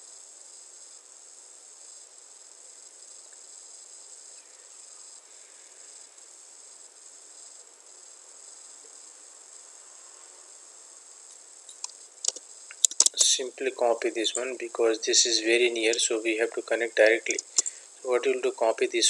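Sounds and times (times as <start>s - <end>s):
faint high-pitched hiss: 0.0s - 19.0s.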